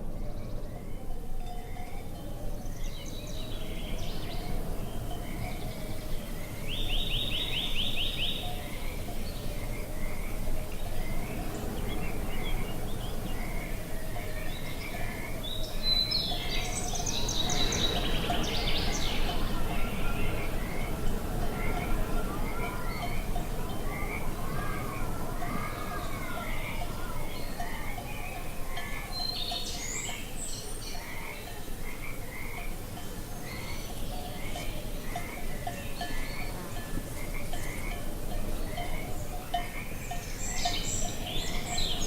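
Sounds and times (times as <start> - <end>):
songbirds singing: 0.0 - 42.0.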